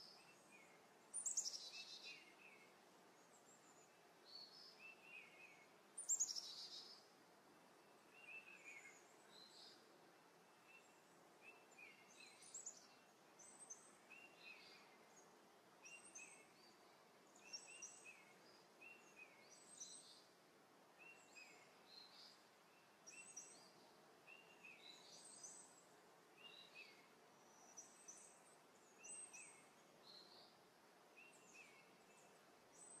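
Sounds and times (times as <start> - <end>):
outdoor background hiss: 0.0 - 33.0
songbird chirping: 0.0 - 33.0.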